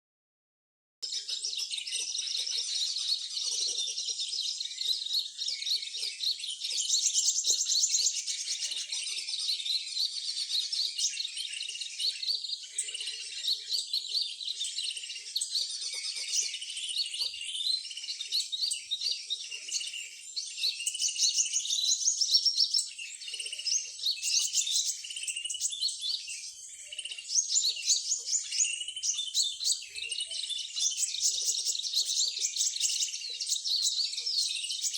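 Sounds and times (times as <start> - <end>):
small birds chirping and trilling: 1.0 - 34.9.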